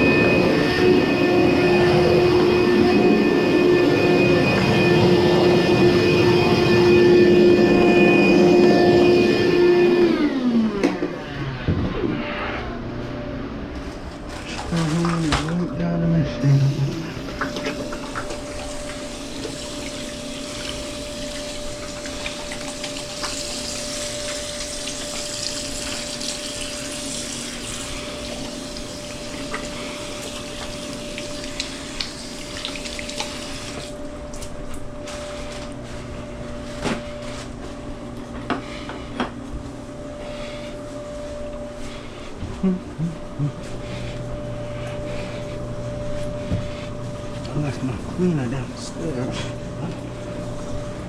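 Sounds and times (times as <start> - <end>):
clothes dryer humming: 0.0 - 51.0.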